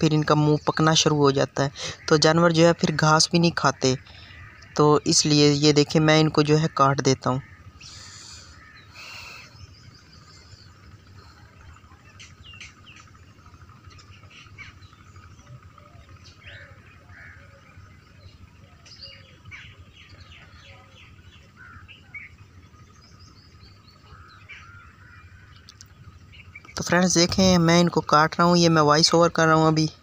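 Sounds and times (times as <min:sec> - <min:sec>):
low steady rumble: 0:00.0 - 0:30.0
small birds chirping: 0:00.0 - 0:30.0.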